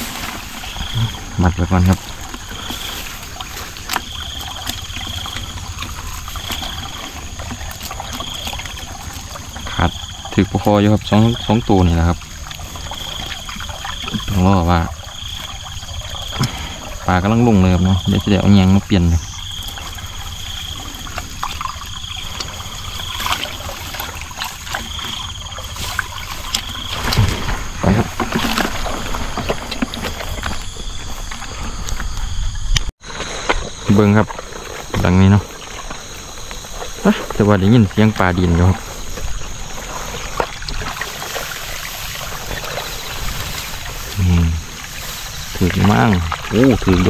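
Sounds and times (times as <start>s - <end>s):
small knocks and splashes: 0.0s - 32.0s, 33.1s - 47.0s
insect trilling: 0.0s - 47.0s
water sloshing and trickling: 0.0s - 47.0s.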